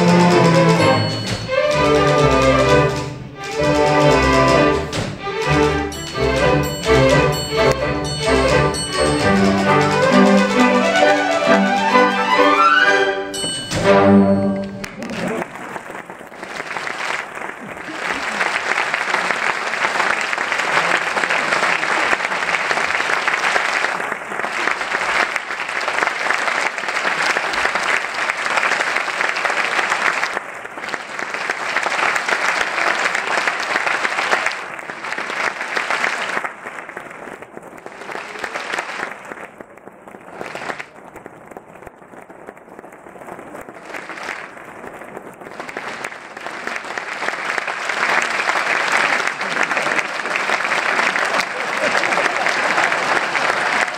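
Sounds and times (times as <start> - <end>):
audience applauding: 0.0 - 53.9.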